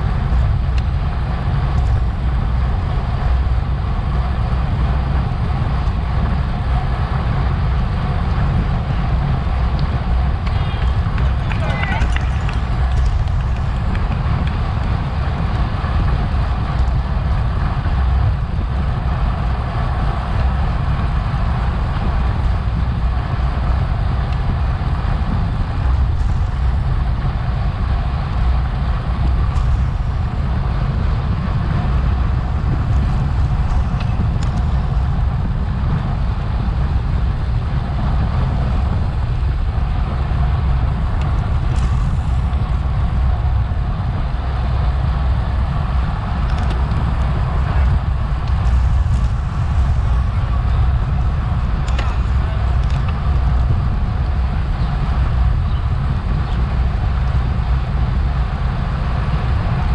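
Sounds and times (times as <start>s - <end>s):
road and tyre rumble: 0.0s - 59.9s
wind buffeting microphone: 0.0s - 59.9s.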